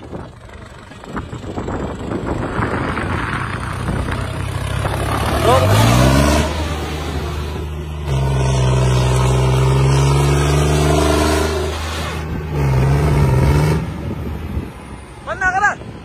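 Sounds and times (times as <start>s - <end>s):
tractor diesel engine revving: 0.0s - 15.2s.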